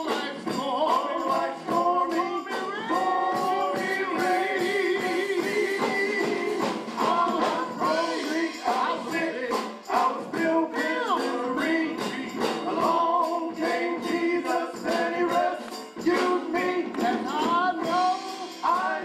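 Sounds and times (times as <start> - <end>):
drum kit beat: 0.0 - 19.0
male vocal group singing: 0.0 - 19.0.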